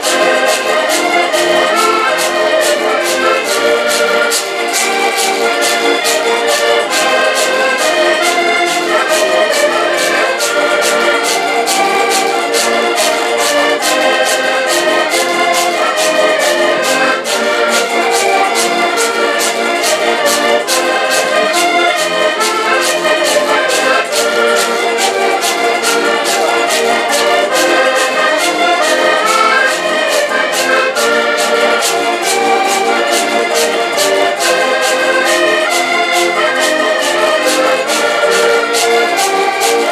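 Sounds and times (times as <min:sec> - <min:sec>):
button accordions playing folk tune: 0:00.0 - 0:39.9.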